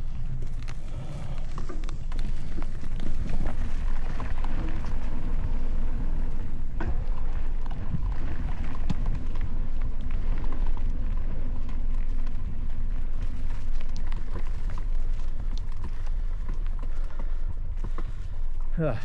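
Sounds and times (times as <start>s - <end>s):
bike clicks and rattles: 0.0s - 19.0s
wind rumble on microphone: 0.0s - 19.0s.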